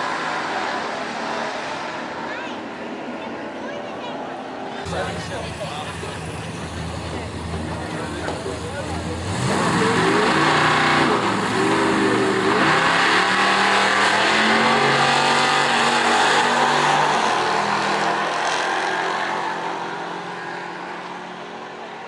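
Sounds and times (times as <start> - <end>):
car engine accelerating hard: 4.3 - 22.0.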